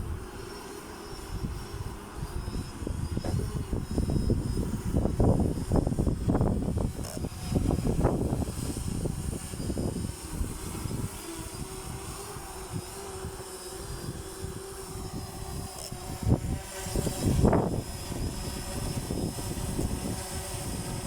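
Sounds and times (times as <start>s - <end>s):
drone propellers humming: 0.0s - 21.0s
wind buffeting microphone: 1.2s - 21.0s.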